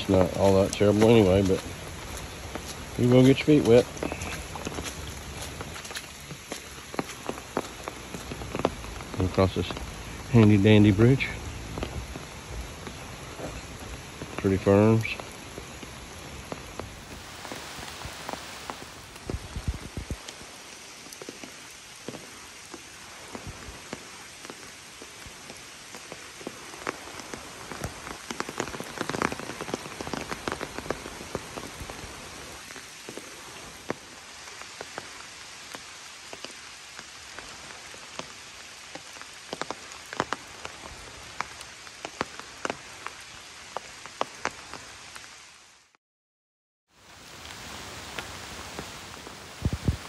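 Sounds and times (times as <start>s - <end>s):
raindrops striking an umbrella: 0.0s - 45.9s, 47.0s - 50.0s
steady rain falling: 0.0s - 46.0s, 46.9s - 50.0s.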